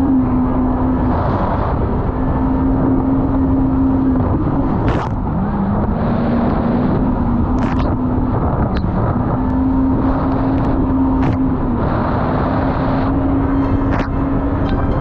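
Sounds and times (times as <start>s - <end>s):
jet ski engine droning: 0.0s - 15.0s
wind and water rushing: 0.0s - 15.0s.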